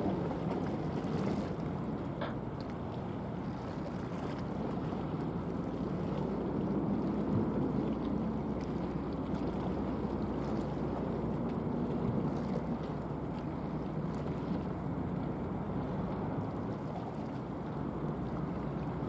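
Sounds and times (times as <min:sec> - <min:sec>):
faint constant hum: 0:00.0 - 0:19.0
ship engine low rumble: 0:00.0 - 0:19.0.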